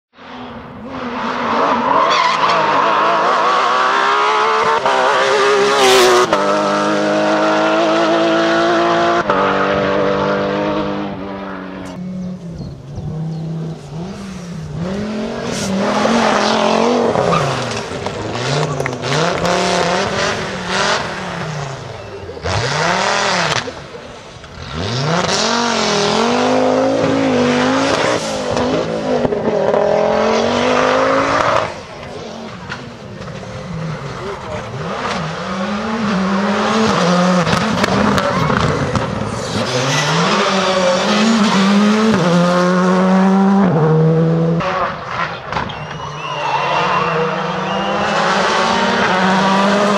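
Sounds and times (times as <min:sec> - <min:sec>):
rally car engine accelerating: 0:00.2 - 0:49.9
turbocharged engine revving: 0:01.6 - 0:32.7, 0:33.3 - 0:45.2, 0:47.2 - 0:49.9.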